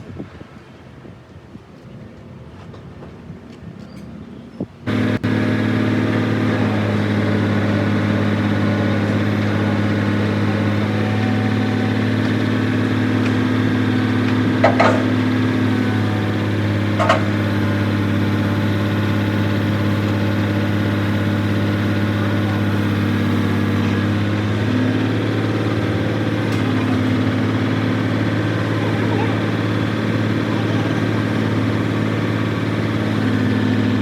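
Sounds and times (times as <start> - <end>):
vehicle engine idling: 4.9 - 34.0.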